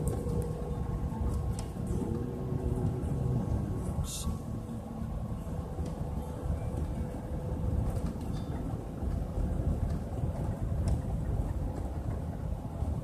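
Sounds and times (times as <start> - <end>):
car driving rumble: 0.0 - 13.0
faint steady hum: 0.0 - 13.0.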